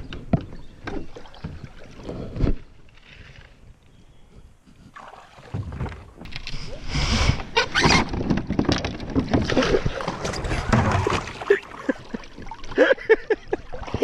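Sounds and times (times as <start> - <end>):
water sloshing and gurgling: 0.1 - 14.0.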